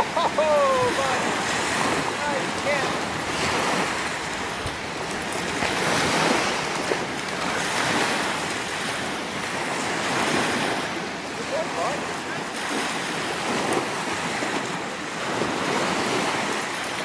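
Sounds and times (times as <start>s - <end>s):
small waves washing ashore: 0.0s - 17.0s
wind on microphone: 0.0s - 17.0s.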